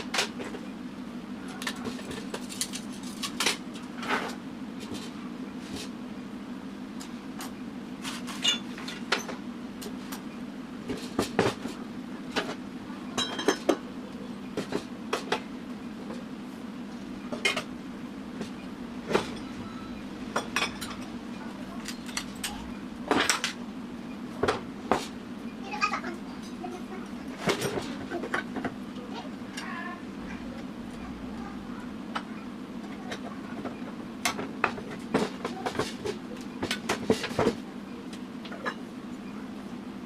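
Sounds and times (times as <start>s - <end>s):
motor hum: 0.0s - 35.6s.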